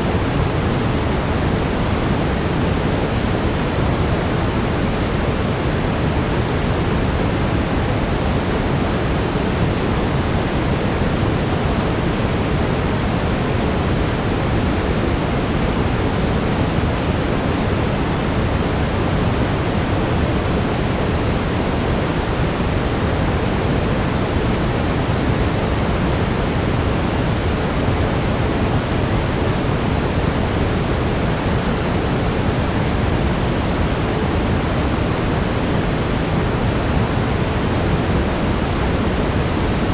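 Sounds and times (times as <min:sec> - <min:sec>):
brown noise deep hiss: 0:00.0 - 0:39.9.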